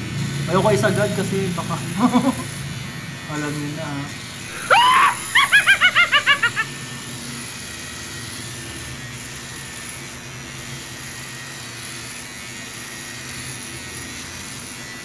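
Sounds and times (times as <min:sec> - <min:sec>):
hair clipper buzzing: 0:00.0 - 0:15.0.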